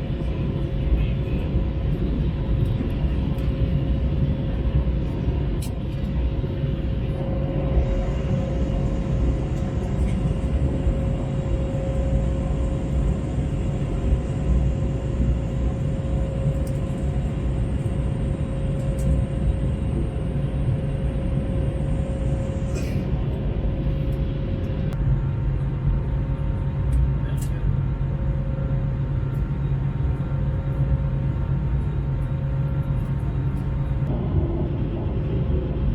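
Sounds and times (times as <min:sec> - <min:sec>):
airplane cabin low rumble: 0:00.0 - 0:35.9
jet engine whine: 0:00.0 - 0:35.9.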